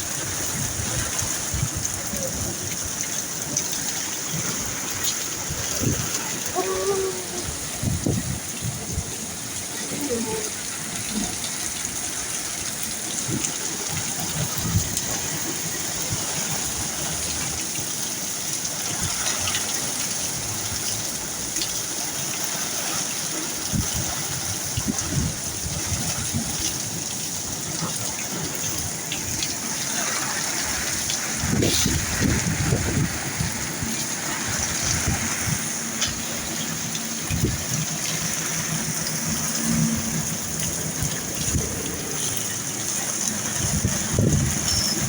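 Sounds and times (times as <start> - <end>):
rain pouring: 0.0 - 45.0.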